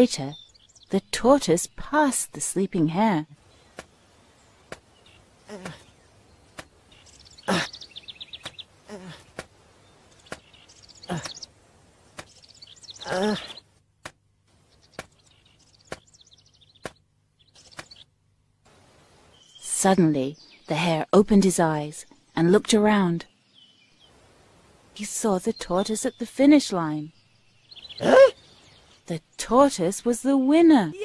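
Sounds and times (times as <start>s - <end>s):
birds twittering: 0.0s - 13.7s, 14.5s - 18.2s, 18.9s - 30.1s.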